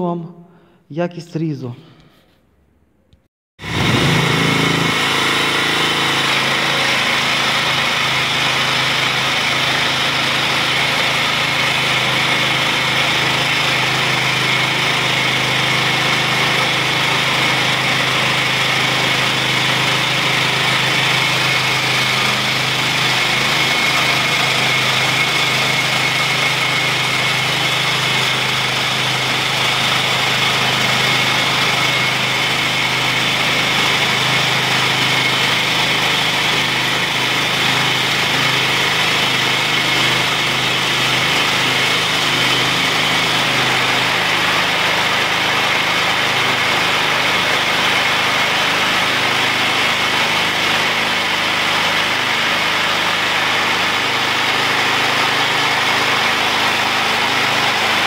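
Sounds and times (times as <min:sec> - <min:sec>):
chainsaw engine running: 0:03.6 - 0:58.0
saw chain whine: 0:03.6 - 0:58.0.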